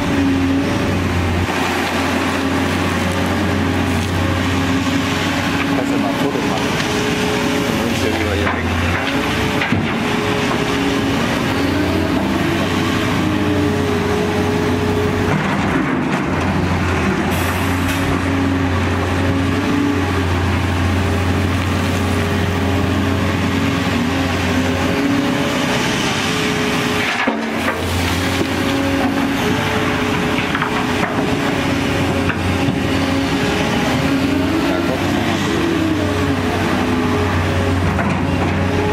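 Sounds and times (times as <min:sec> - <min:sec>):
dump truck engine running: 0:00.0 - 0:38.9
excavator diesel engine and hydraulics: 0:00.0 - 0:38.9.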